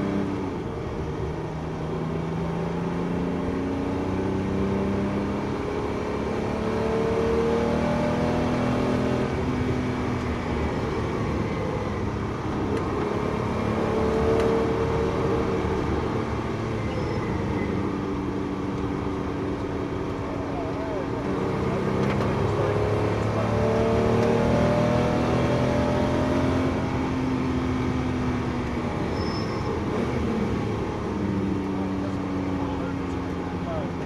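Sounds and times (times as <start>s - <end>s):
car engine accelerating: 0.0s - 34.0s
road and wind noise: 0.0s - 34.0s.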